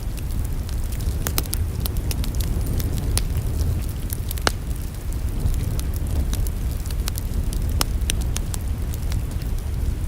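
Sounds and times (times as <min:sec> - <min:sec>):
fire low rumble: 0:00.0 - 0:10.0
wood fire crackling: 0:00.0 - 0:10.0.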